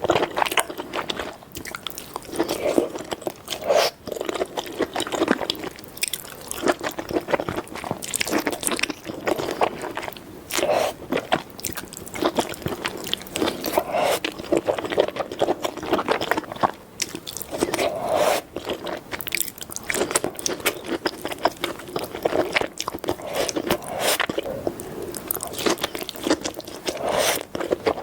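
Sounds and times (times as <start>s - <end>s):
wet chewing: 0.0s - 28.0s.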